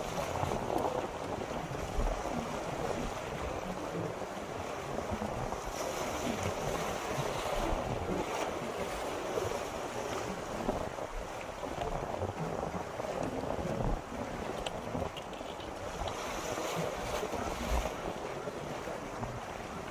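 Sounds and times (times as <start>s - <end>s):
sea waves: 0.0s - 19.9s
wind buffeting the microphone: 0.0s - 19.9s.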